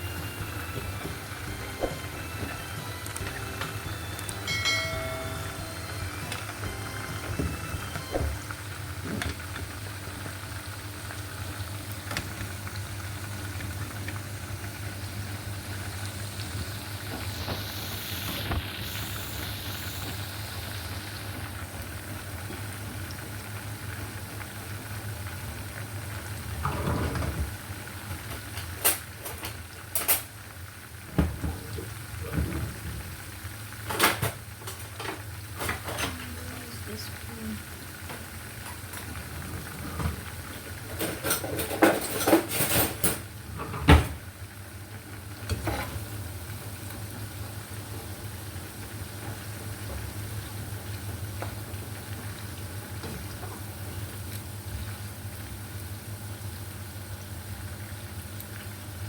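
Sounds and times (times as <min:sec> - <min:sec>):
onions sizzling in hot oil: 0:00.0 - 0:42.5, 0:43.2 - 0:59.0.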